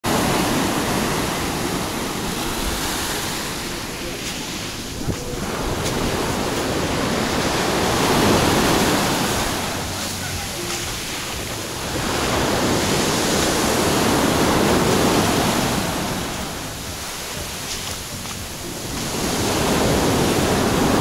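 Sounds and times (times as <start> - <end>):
surf washing up a beach: 0.0 - 21.0.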